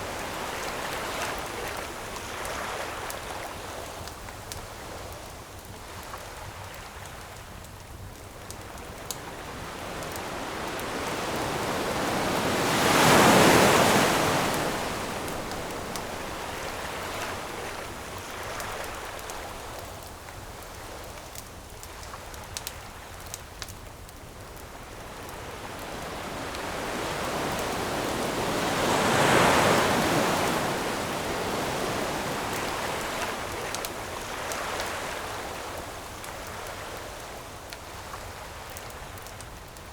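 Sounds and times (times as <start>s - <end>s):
ocean waves breaking on shore: 0.0s - 5.1s, 8.3s - 21.8s, 24.6s - 39.5s
campfire crackling: 0.0s - 39.9s.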